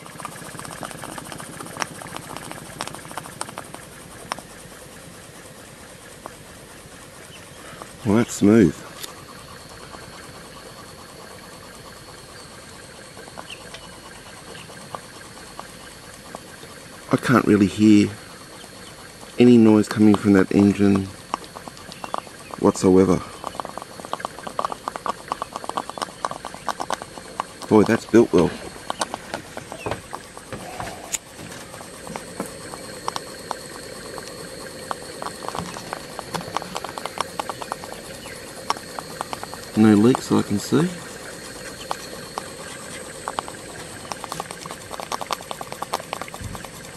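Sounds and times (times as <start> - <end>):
steam engine ticking and spitting: 0.0 - 46.9.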